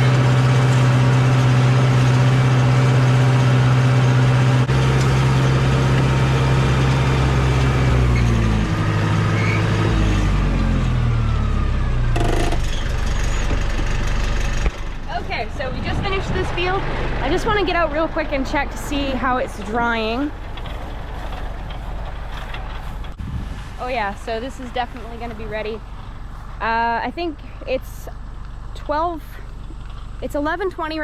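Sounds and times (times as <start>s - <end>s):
vehicle engine slowing down: 0.0s - 31.0s.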